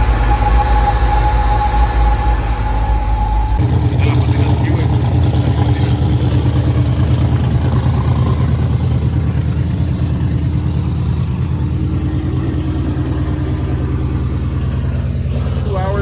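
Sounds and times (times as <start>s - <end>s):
pickup truck engine rumbling: 0.0s - 16.0s.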